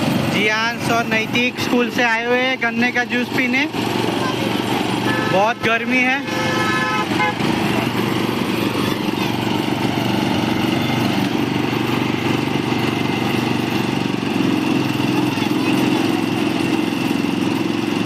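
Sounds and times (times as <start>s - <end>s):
motor-driven juice crusher drone: 0.0s - 18.0s.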